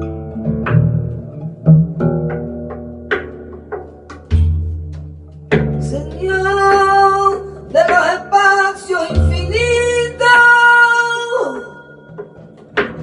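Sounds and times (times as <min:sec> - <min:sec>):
plucked oud: 0:00.0 - 0:13.0.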